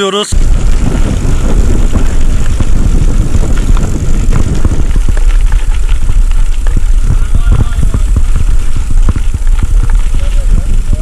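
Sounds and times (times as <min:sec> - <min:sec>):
bike rattling over bumps: 0:00.3 - 0:11.0
wind buffeting microphone: 0:00.3 - 0:11.0.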